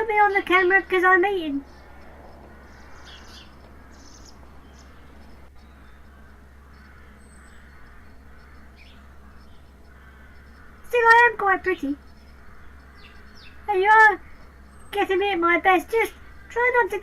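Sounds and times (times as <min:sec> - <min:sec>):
faint birds chirping: 0:00.0 - 0:17.0
low steady outdoor hum: 0:00.0 - 0:17.0.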